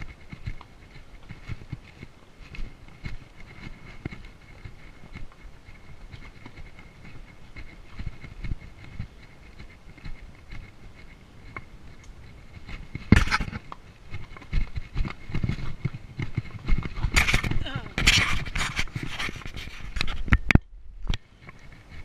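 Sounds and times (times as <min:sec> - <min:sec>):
hooves clopping on stone: 0:00.0 - 0:22.0.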